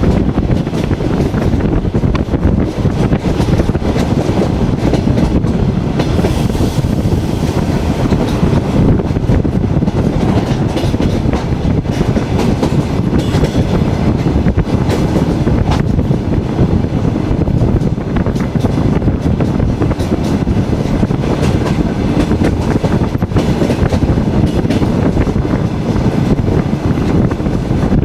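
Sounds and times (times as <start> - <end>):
train carriage rumbling: 0.0 - 28.0.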